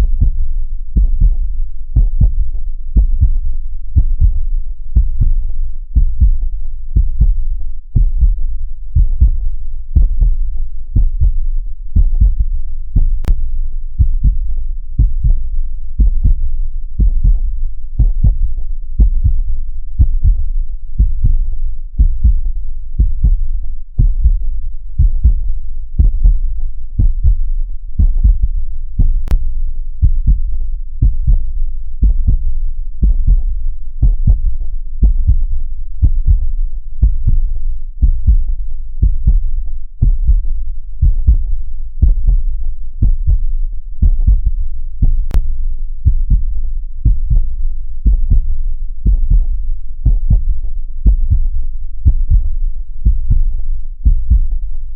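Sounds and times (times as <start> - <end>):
heartbeat thumping: 0.0 - 54.7.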